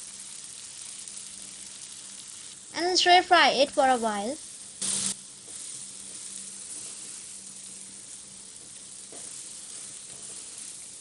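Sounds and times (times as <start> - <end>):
vegetables sizzling in wok: 0.0 - 11.0.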